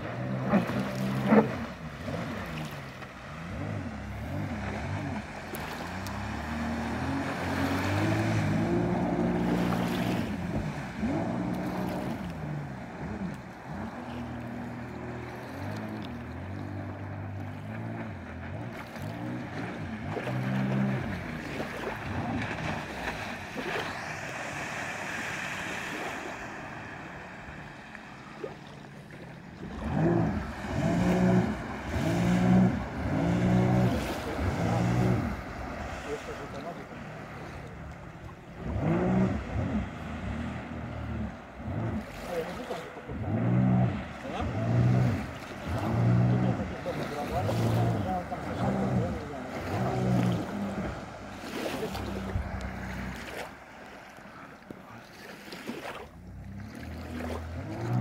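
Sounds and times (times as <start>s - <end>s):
jet ski engine: 0.0s - 58.0s.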